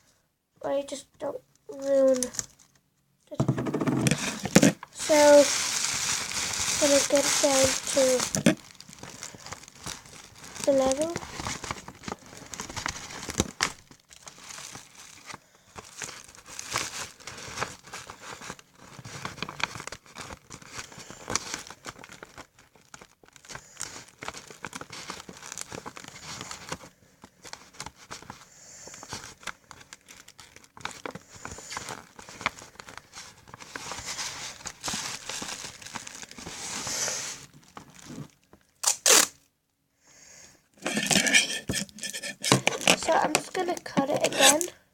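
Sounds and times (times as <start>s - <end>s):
paper and tape crinkling: 1.7s - 39.4s, 40.8s - 44.8s.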